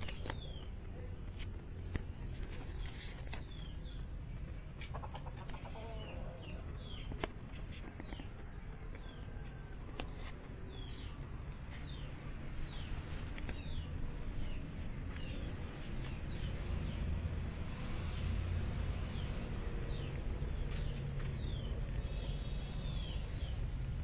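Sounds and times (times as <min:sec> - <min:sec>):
birds chirping: 0:00.0 - 0:24.0
steady low rumble: 0:00.0 - 0:24.0.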